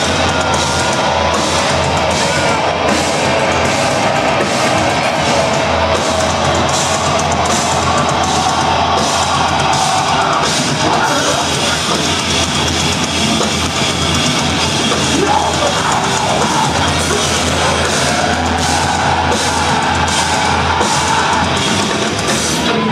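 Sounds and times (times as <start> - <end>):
drum kit: 0.0 - 22.9
metalcore band playing live: 0.0 - 22.9.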